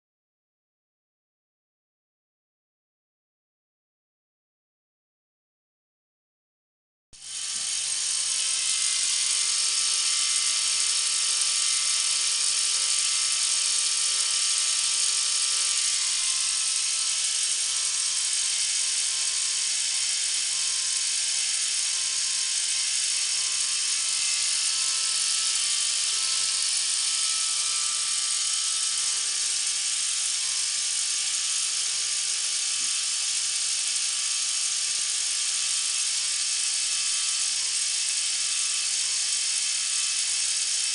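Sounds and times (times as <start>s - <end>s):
toy motor and plastic gears whirring: 7.2s - 40.9s.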